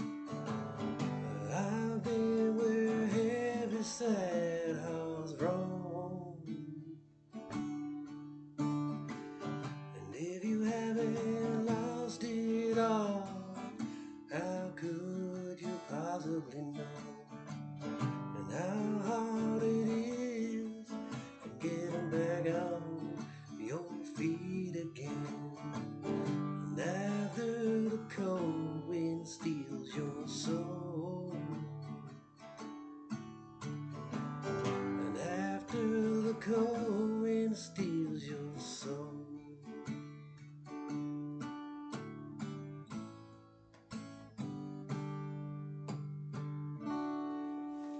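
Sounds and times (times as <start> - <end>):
acoustic guitar strummed and picked: 0.0 - 47.9.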